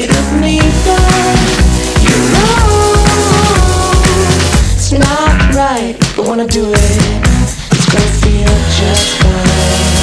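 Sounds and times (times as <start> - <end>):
song with steady drum beat: 0.0 - 10.0.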